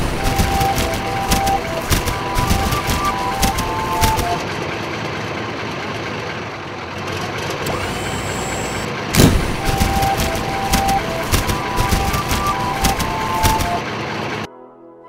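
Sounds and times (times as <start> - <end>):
cartoon tank engine rumbling: 0.0 - 14.5.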